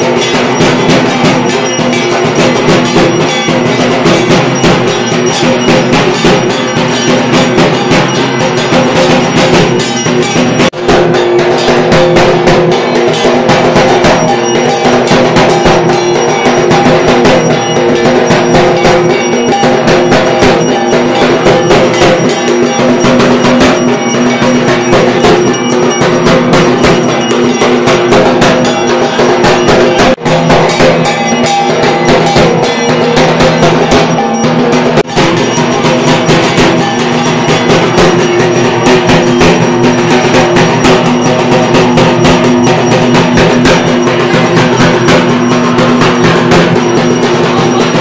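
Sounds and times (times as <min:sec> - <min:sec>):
drum beaten rapidly with sticks: 0:00.0 - 0:48.0
metallic ringing: 0:00.0 - 0:48.0.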